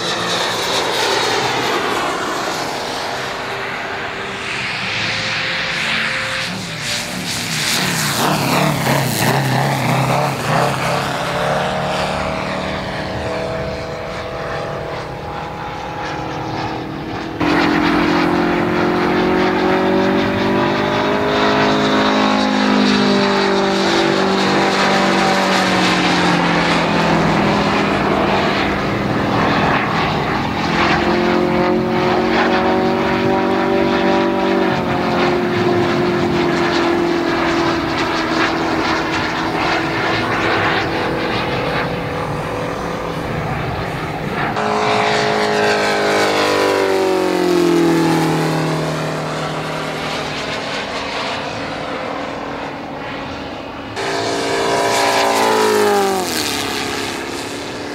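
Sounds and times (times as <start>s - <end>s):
model airplane engine flying past: 0.0s - 57.9s.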